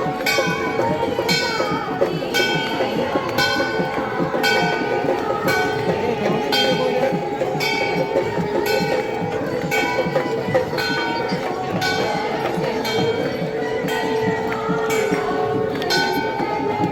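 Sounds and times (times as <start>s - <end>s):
dense background din: 0.0s - 16.9s
temple bell ringing: 0.0s - 16.9s.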